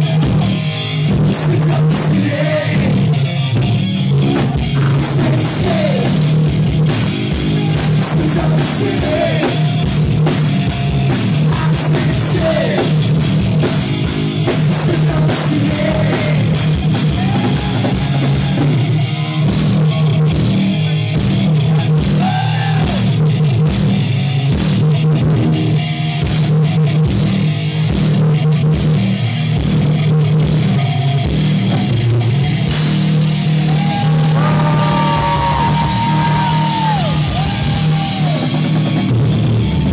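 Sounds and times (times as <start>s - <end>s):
distorted electric guitar: 0.0s - 39.9s
pounding drum kit: 0.0s - 39.9s.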